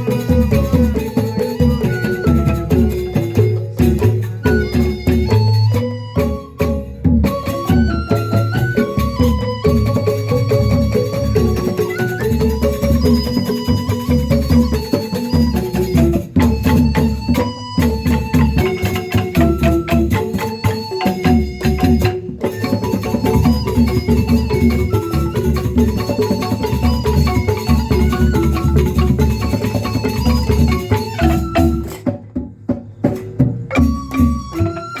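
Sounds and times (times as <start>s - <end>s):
mallet percussion music: 0.0s - 35.0s.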